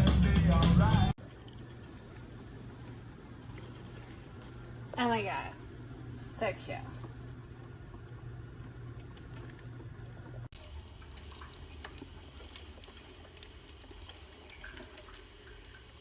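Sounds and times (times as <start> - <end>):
steady low hum: 0.0 - 16.0
coffee maker gurgling and dripping: 1.2 - 16.0.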